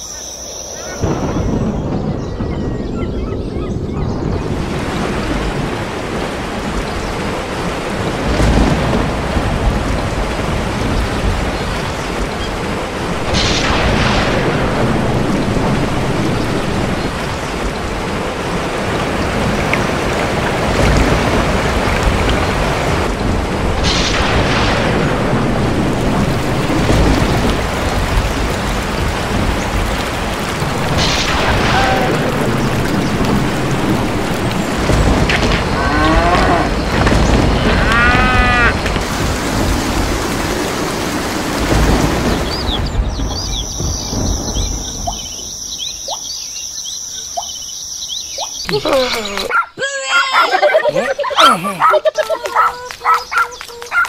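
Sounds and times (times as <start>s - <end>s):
heavy rain: 0.7s - 54.0s
thunder cracks: 1.0s - 45.4s
deep thunder rumbles: 1.0s - 46.2s.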